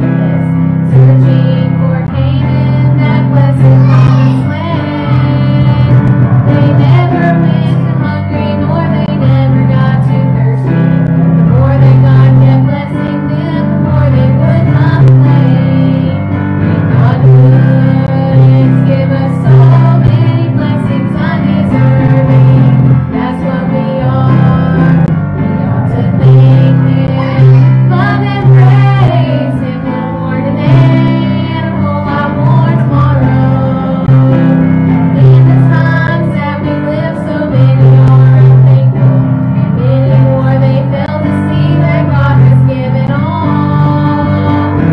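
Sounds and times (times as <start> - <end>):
women singing a church song: 0.0 - 10.8, 11.4 - 44.9
instrumental accompaniment: 0.0 - 44.9.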